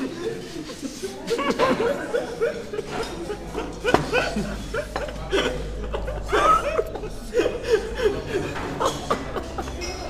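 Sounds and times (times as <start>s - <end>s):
young men laughing: 0.0s - 10.0s.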